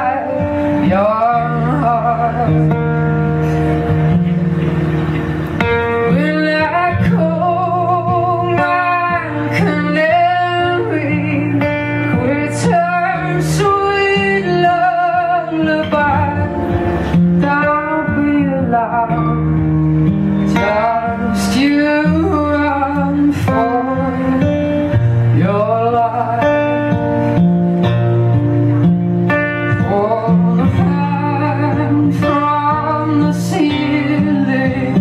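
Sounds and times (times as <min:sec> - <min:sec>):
woman singing: 0:00.0 - 0:03.0, 0:06.0 - 0:19.7, 0:20.5 - 0:27.0, 0:29.7 - 0:35.0
strummed acoustic guitar: 0:00.0 - 0:35.0.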